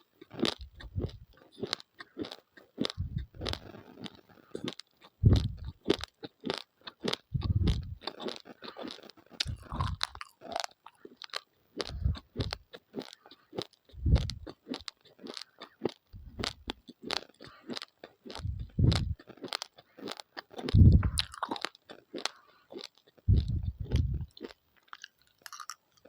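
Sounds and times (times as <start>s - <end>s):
person chewing raw rice: 0.0s - 26.0s.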